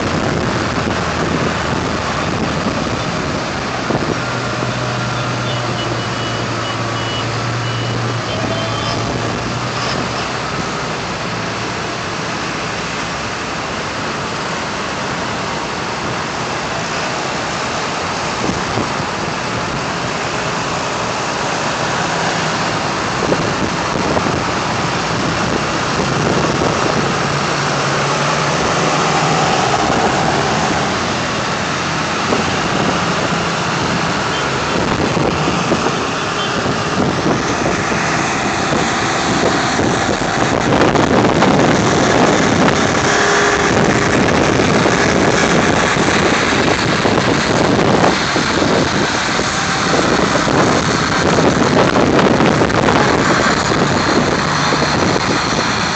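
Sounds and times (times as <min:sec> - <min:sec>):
tractor engines driving by: 0:00.0 - 0:55.9.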